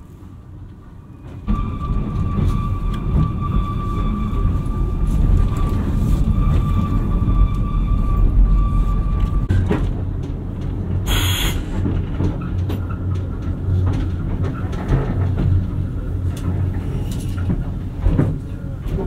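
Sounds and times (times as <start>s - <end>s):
train running along track: 0.0s - 19.0s
wheels clicking on rails: 0.6s - 19.0s.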